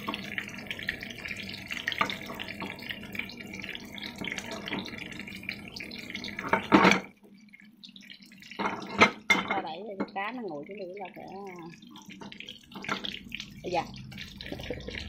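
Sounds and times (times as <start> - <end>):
pot of water boiling: 0.0 - 15.0.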